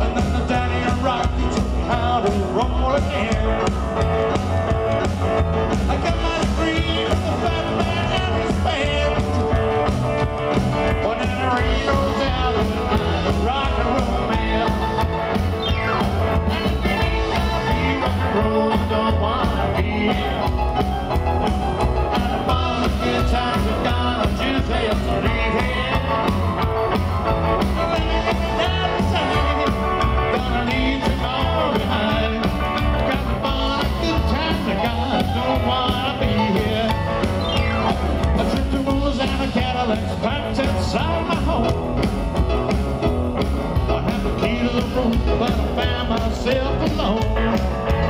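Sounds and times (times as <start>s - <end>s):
rock and roll band playing: 0.0s - 48.0s.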